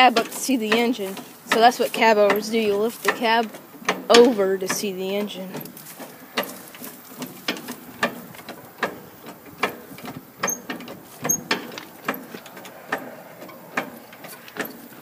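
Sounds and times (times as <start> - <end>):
hand pump clicking: 0.0 - 15.0.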